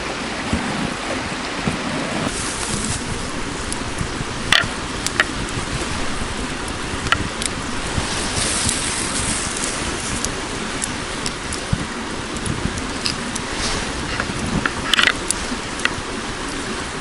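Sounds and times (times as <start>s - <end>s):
campfire hissing: 0.0s - 17.0s
campfire popping: 2.2s - 17.0s.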